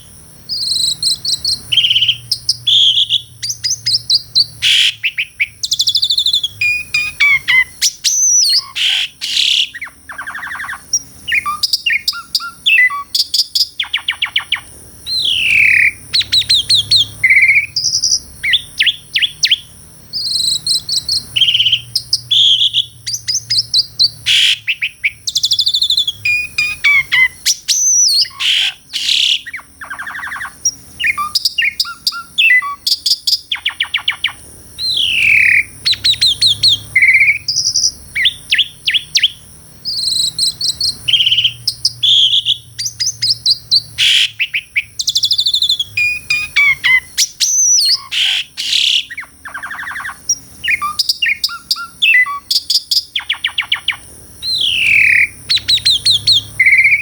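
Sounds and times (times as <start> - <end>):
starling singing varied song: 0.0 - 57.0.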